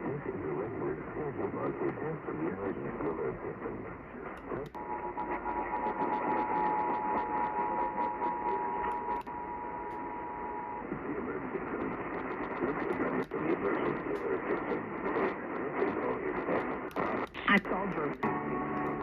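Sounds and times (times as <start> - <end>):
radio static hissing: 0.0 - 19.0.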